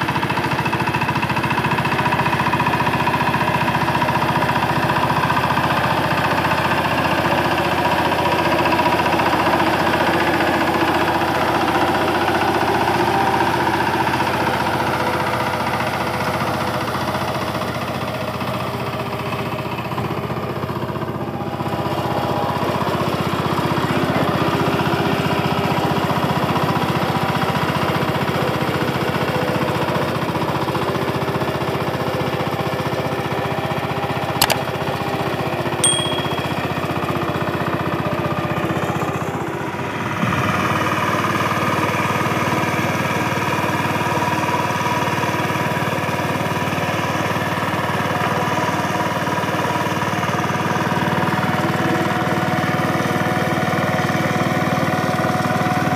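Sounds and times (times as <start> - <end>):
tiller diesel engine chugging: 0.0 - 55.9.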